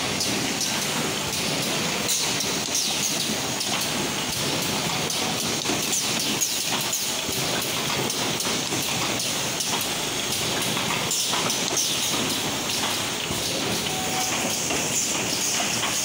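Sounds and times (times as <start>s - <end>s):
machine clicking and clatter: 0.0s - 16.0s.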